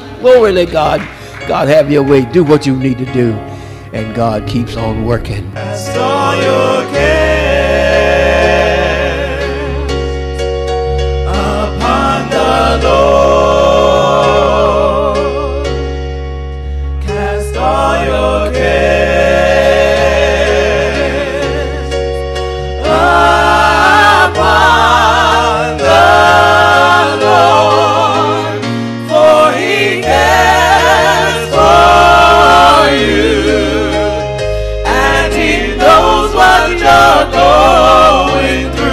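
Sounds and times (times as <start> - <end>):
sustained bass notes: 1.5 - 38.9
choir singing with vibrato: 5.4 - 38.9.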